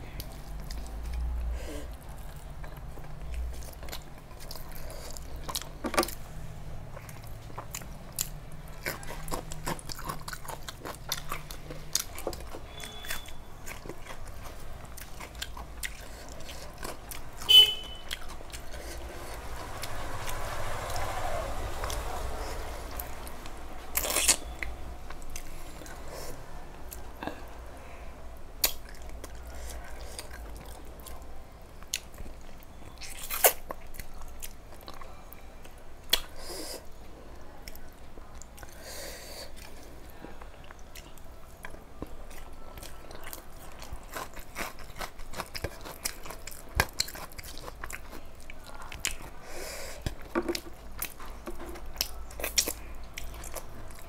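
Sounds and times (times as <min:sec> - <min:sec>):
person chewing with wet mouth sounds: 0:00.0 - 0:54.0.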